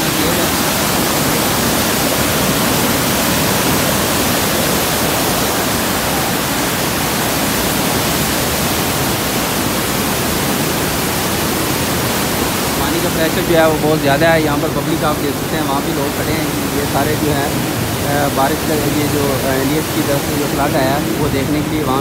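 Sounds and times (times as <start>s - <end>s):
roaring rushing floodwater: 0.0s - 22.0s.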